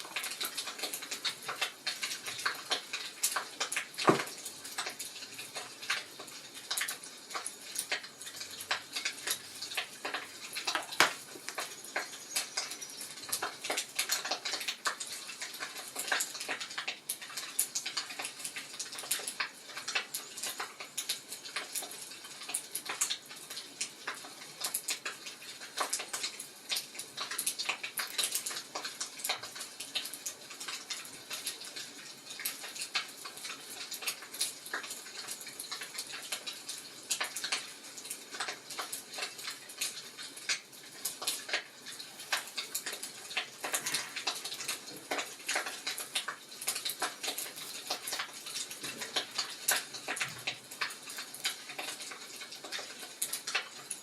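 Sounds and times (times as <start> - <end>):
soft hiss of fire: 0.0 - 54.0
wood fire crackling and popping: 0.0 - 54.0.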